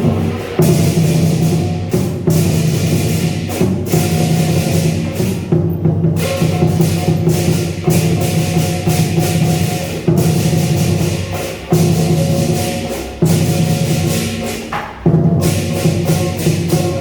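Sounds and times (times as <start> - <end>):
big drum strikes: 0.0 - 17.0
cymbals crashing: 0.0 - 17.0.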